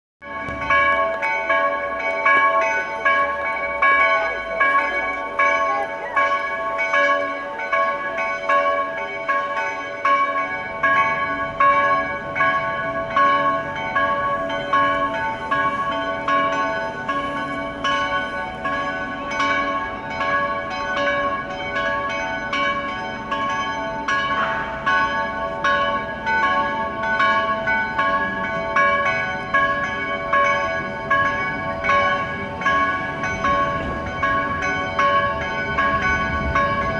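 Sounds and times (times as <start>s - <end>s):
church bells ringing: 0.2s - 36.9s.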